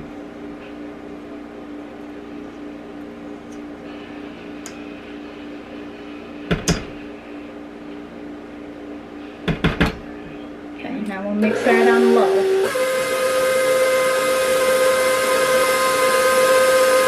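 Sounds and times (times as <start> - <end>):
appliance hum: 0.0 - 17.0.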